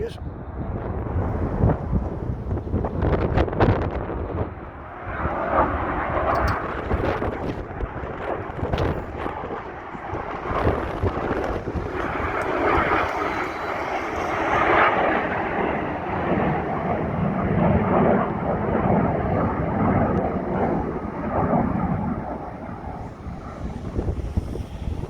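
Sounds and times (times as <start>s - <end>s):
jet aircraft engine rumble: 0.0s - 25.0s
wind buffeting microphone: 0.0s - 25.0s.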